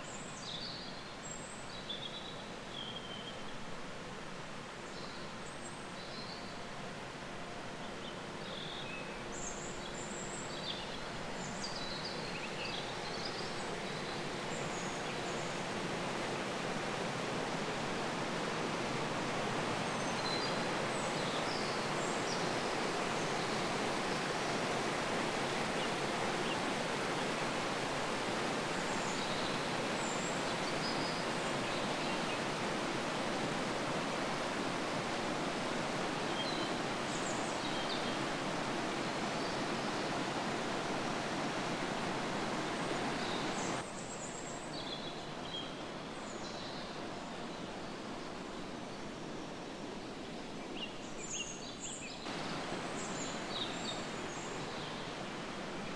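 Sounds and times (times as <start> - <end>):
waterfall rushing water: 0.0 - 55.9.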